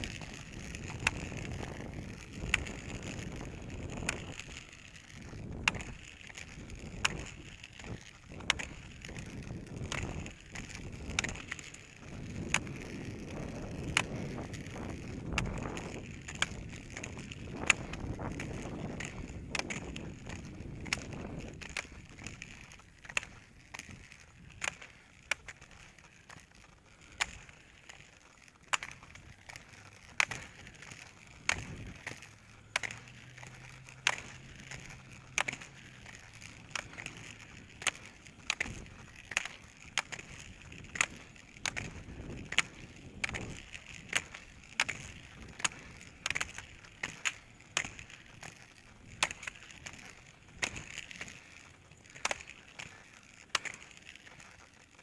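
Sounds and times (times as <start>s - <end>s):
pole tips clicking on asphalt: 0.0s - 55.0s.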